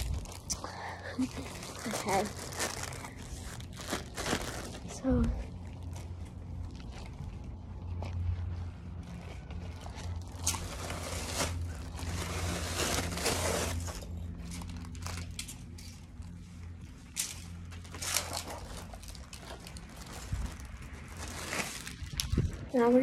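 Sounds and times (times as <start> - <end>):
plastic wrapping crinkling: 0.0 - 22.7
steady low hum: 0.0 - 23.0.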